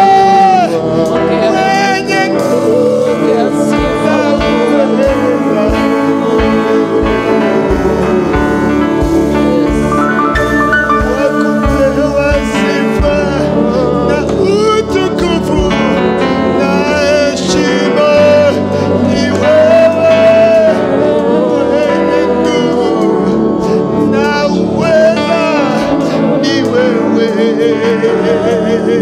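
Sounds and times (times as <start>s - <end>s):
man singing into microphone: 0.0s - 29.0s
musical accompaniment: 0.0s - 29.0s.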